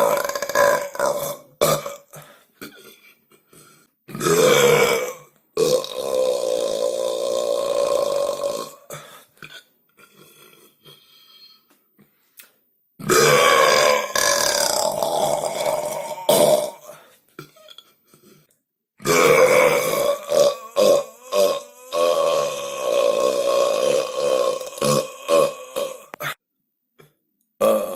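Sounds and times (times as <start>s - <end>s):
boy burping loudly: 0.0s - 3.0s, 4.1s - 11.0s, 13.0s - 18.0s, 19.0s - 26.4s, 27.6s - 27.9s.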